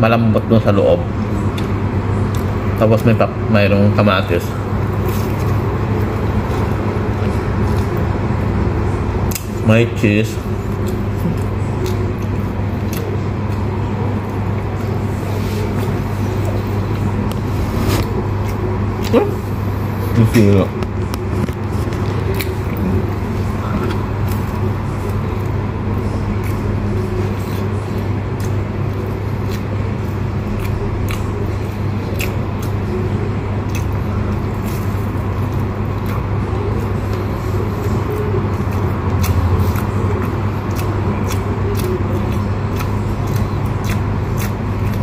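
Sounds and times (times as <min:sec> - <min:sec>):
steady low hum: 0:00.0 - 0:45.0
chewing crusty bread: 0:01.2 - 0:09.6, 0:10.3 - 0:45.0.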